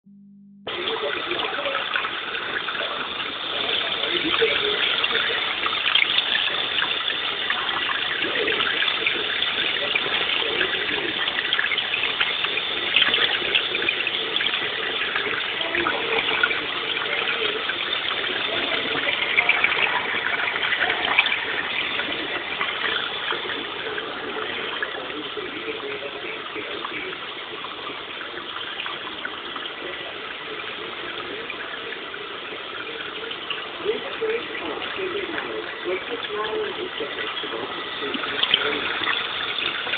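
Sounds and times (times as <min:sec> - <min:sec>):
water churning and splashing: 0:00.7 - 0:39.9.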